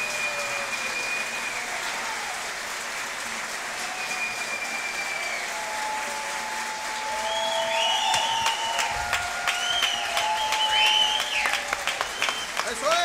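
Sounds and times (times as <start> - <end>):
audience applauding: 0.0 - 13.0
audience cheering: 0.0 - 13.0.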